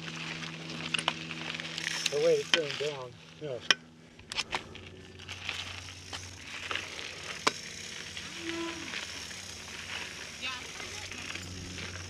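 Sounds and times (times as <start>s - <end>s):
bike clicks and knocks: 0.0s - 3.0s, 3.6s - 12.0s
bike tyres crunching on dirt: 0.0s - 12.0s.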